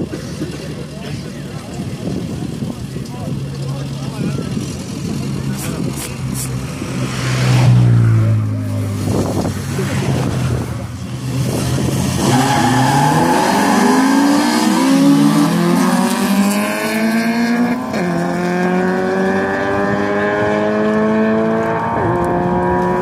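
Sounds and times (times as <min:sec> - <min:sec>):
car engines accelerating hard: 0:00.0 - 0:23.0.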